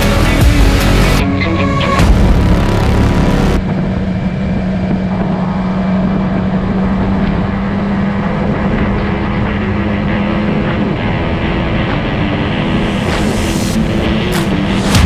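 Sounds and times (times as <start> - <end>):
wind and road noise: 0.0 - 15.0
motorcycle engine running: 2.0 - 15.0.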